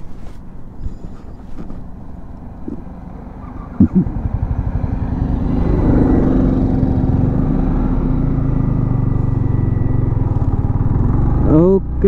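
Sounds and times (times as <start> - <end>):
motorcycle engine idling and pulling away: 0.0 - 12.0.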